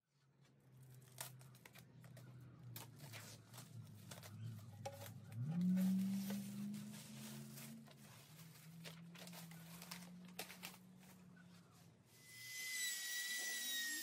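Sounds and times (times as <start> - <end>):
plastic wrap crinkling and tearing: 0.4 - 11.7.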